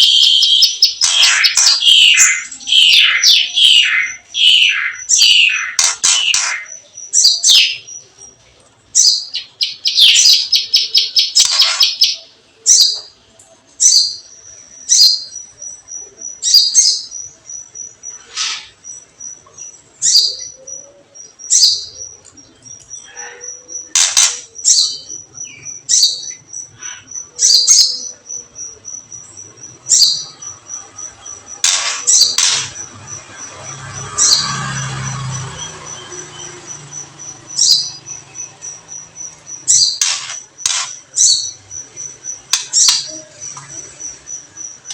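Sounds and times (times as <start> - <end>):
high bird chirps and trills: 0.0 - 8.4, 9.0 - 13.2, 13.8 - 44.9.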